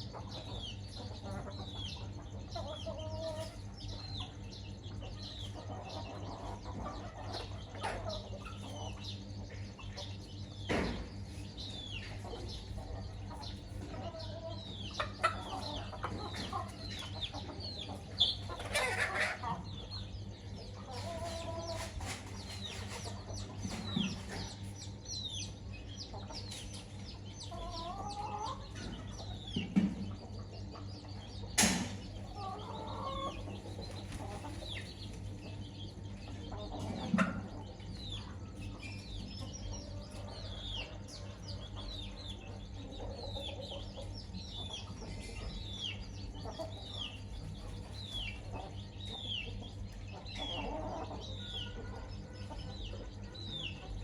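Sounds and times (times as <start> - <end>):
chicks peeping: 0.0 - 54.0
hen clucking: 0.0 - 54.0
steady low hum: 0.0 - 54.0.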